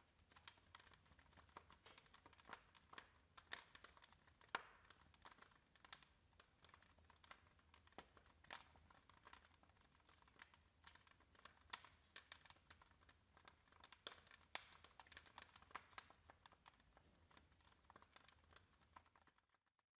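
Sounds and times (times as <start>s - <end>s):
wood fire crackling: 0.0s - 19.7s
fire pops and snaps: 0.0s - 19.8s.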